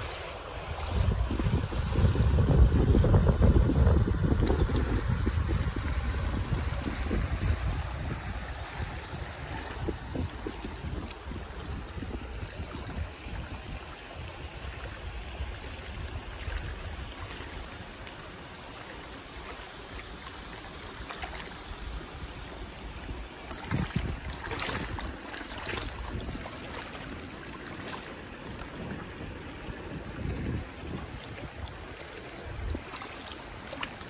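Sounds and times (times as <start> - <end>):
wind buffeting microphone: 0.0 - 17.8, 21.8 - 34.0
small waves lapping shore: 0.0 - 34.0.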